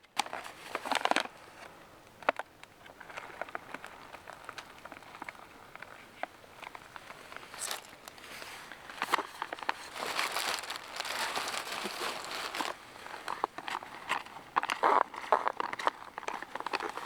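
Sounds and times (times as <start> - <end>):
foil pouch crinkling: 0.2 - 1.7, 2.3 - 17.0.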